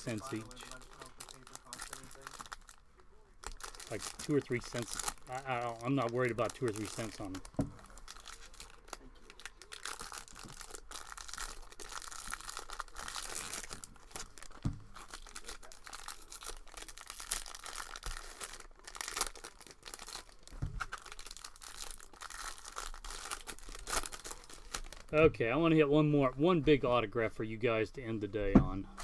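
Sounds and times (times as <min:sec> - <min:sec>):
foil wrapper tearing and crinkling: 0:00.0 - 0:02.8, 0:03.4 - 0:25.1.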